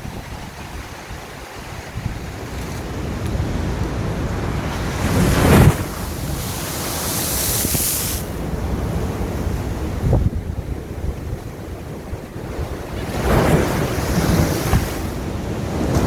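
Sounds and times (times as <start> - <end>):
hissing wash of water: 0.0 - 16.0
waves crashing on shore: 0.0 - 16.0
wind buffeting microphone: 0.0 - 16.0.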